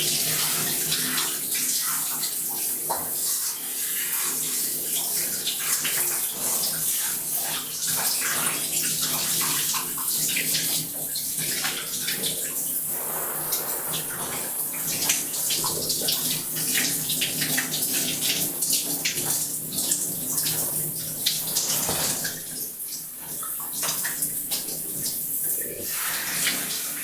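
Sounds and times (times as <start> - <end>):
shower water splashing in bathtub: 0.0 - 27.0.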